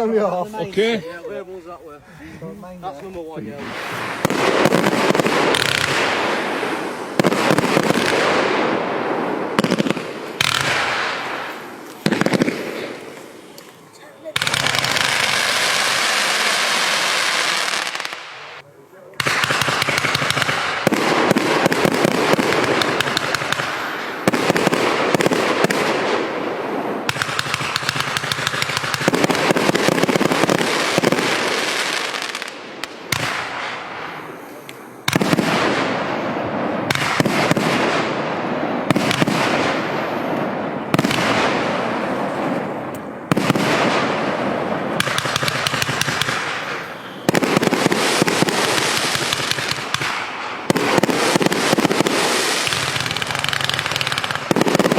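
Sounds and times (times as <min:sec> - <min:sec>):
firework cake firing: 0:03.5 - 0:18.6, 0:19.2 - 0:54.9.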